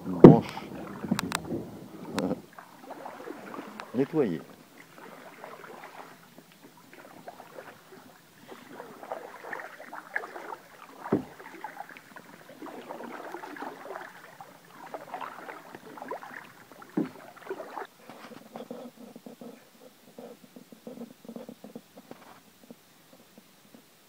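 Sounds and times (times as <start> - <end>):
paddle splashing in water: 0.0 - 23.5.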